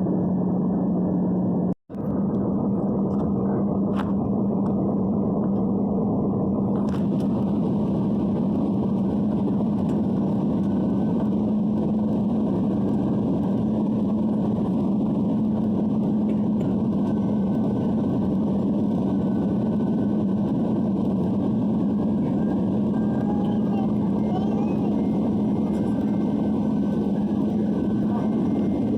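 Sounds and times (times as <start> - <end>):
aircraft cabin engine and airflow noise: 0.0 - 28.9
constant low hum: 0.0 - 28.9.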